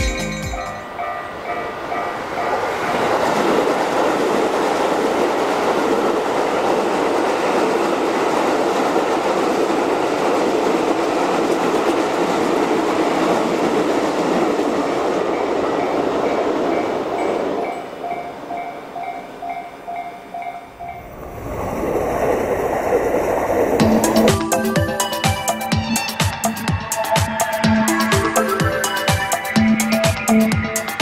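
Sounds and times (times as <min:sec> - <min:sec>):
crossing warning bells: 0:00.0 - 0:21.2, 0:23.8 - 0:31.0
train rushing past: 0:00.0 - 0:31.0.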